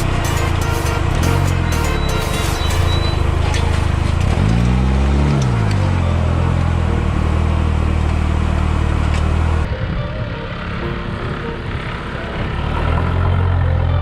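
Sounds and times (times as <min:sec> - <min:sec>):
off-road vehicle engine revving: 0:00.0 - 0:09.7, 0:12.3 - 0:14.0.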